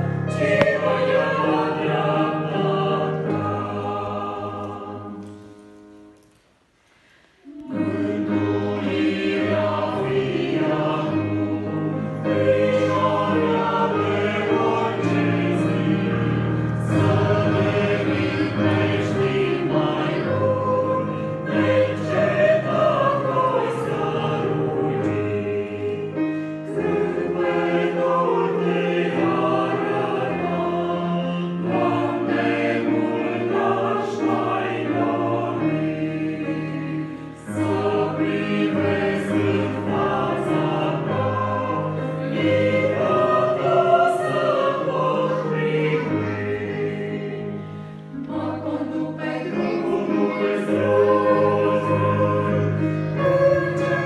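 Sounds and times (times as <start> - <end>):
choir singing a hymn: 0.0 - 6.2, 6.9 - 54.0
sustained keyboard accompaniment: 7.6 - 54.0.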